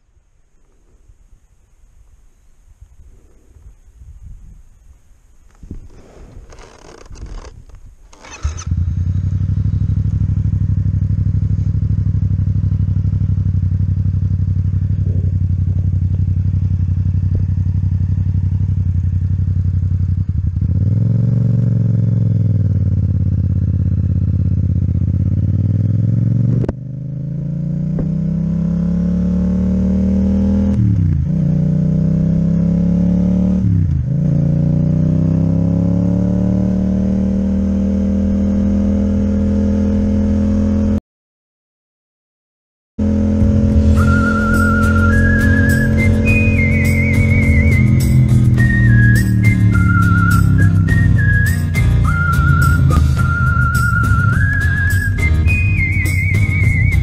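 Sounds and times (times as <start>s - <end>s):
motorcycle accelerating: 5.5s - 41.0s, 43.0s - 57.0s
motorcycle engine: 5.5s - 41.0s, 43.0s - 57.0s.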